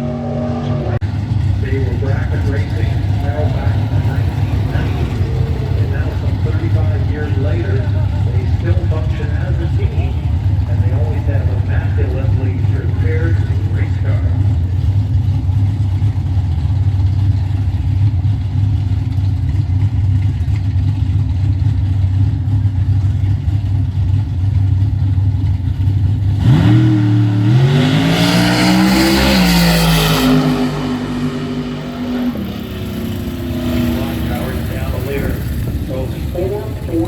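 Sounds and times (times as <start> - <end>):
drag race car engine revving: 0.0 - 37.0.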